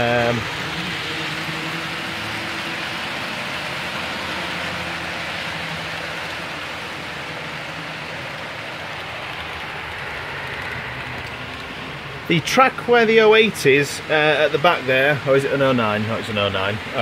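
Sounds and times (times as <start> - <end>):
model trains whirring on track: 0.0 - 17.0.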